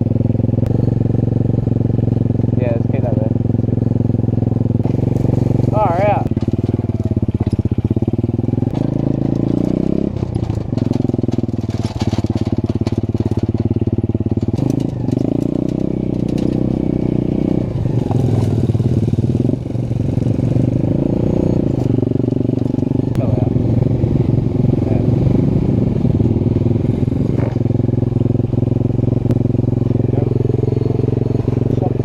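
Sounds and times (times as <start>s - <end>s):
small motorbike engine revving: 0.0s - 32.0s.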